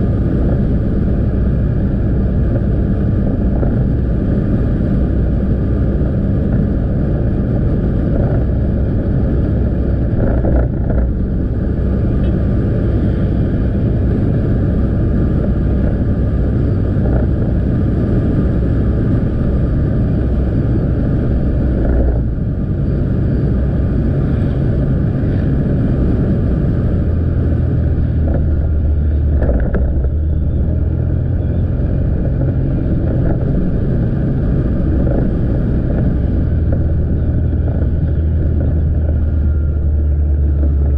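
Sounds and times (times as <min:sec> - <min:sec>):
motorbike engine running: 0:00.0 - 0:40.9
road and wind noise: 0:00.0 - 0:40.9.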